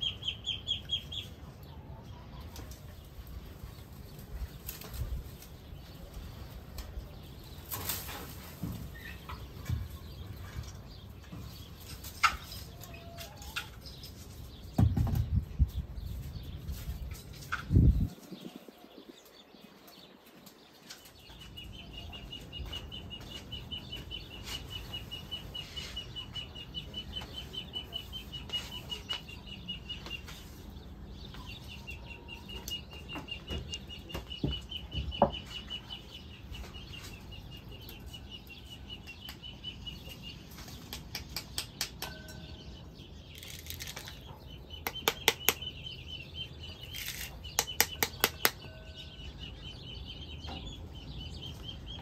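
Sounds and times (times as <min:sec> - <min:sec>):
bird chirping trill: 0:00.0 - 0:01.4, 0:08.9 - 0:52.0.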